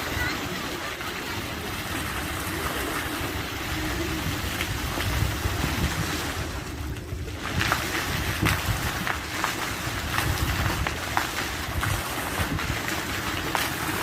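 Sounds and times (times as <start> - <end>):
waterfall rushing: 0.0 - 14.0
wind rumble on microphone: 0.0 - 14.0.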